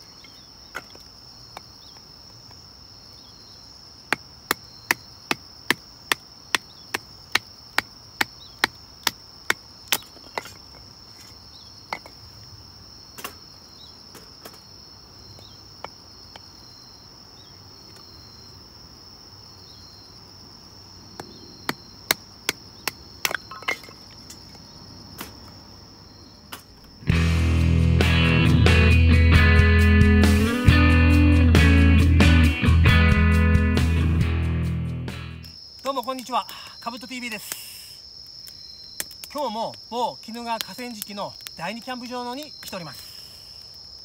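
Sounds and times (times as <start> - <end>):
night insects chirring: 0.0 - 44.0.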